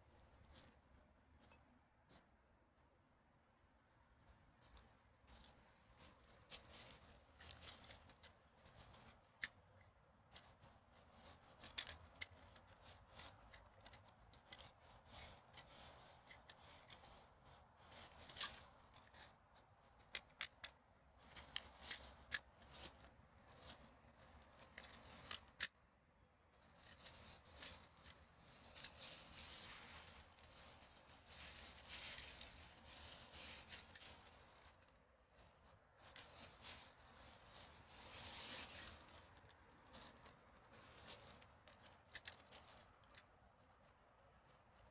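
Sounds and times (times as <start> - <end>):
rustling and crackling of dry litter: 0.0 - 44.9.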